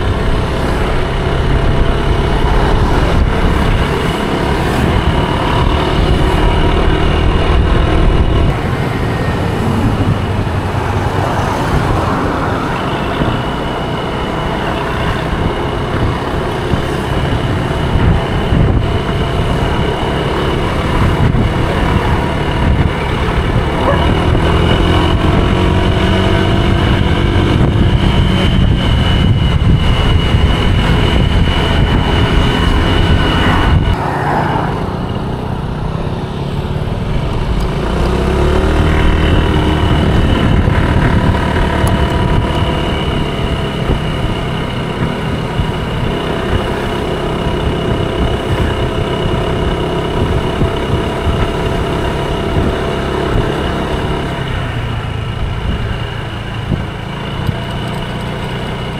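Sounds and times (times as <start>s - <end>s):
scooter engine running: 0.0s - 58.9s
wind and road noise: 0.0s - 58.9s.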